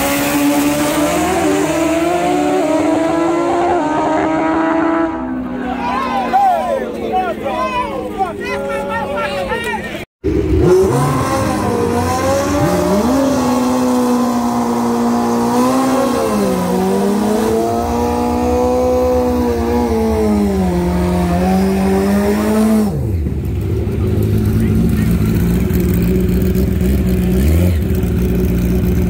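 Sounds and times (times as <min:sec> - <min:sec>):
motorcycle engine revving: 0:00.0 - 0:05.6, 0:10.2 - 0:29.0.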